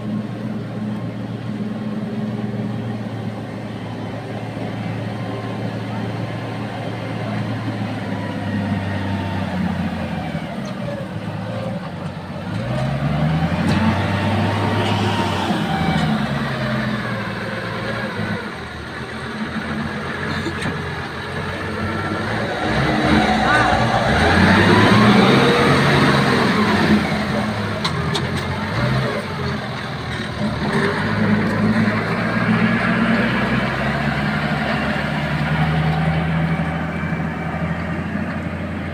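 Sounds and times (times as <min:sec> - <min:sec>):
heavy diesel engine revving: 0:00.0 - 0:38.9.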